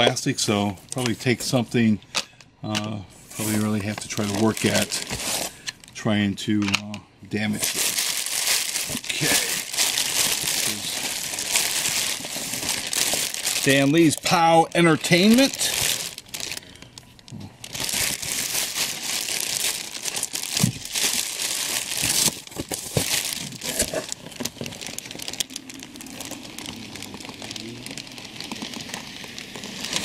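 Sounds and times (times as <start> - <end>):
plastic bag crinkling: 3.4 - 6.0, 7.5 - 30.0.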